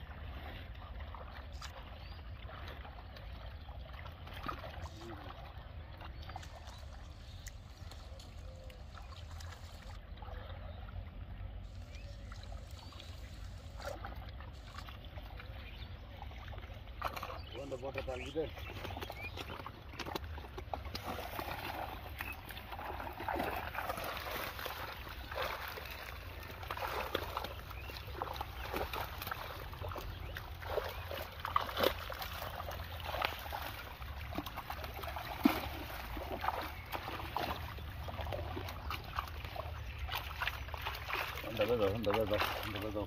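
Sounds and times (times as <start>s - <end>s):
water splashing and dripping: 0.0s - 43.0s.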